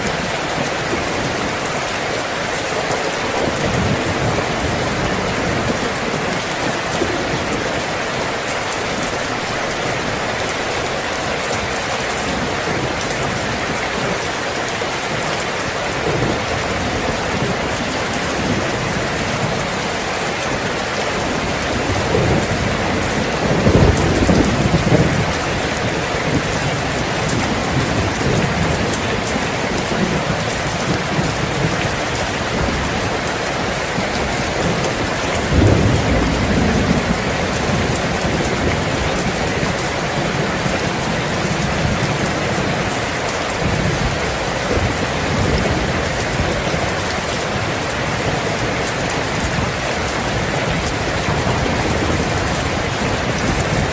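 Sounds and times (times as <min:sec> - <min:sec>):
heavy rain falling: 0:00.0 - 0:53.9
thunder rumbling: 0:02.8 - 0:14.6, 0:15.6 - 0:53.9.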